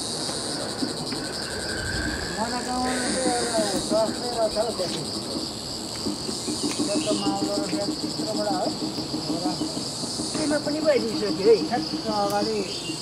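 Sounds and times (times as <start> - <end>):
higher insect drone: 0.0 - 13.0
insects chirring: 0.0 - 13.0.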